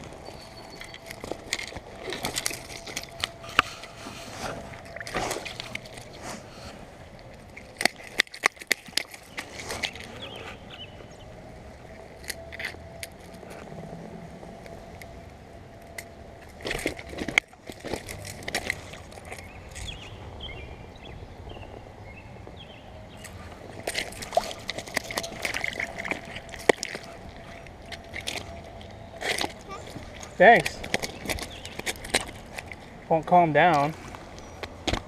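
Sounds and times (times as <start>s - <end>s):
rustling and clicking handling noise: 0.0s - 10.8s, 11.8s - 20.0s, 23.2s - 35.0s
steady outdoor hiss: 0.0s - 35.0s.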